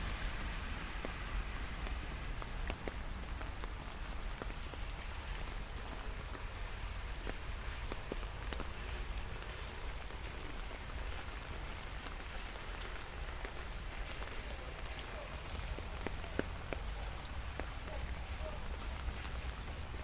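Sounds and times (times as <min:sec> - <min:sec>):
light rain hissing on street: 0:00.0 - 0:20.0
raindrops ticking: 0:00.0 - 0:20.0.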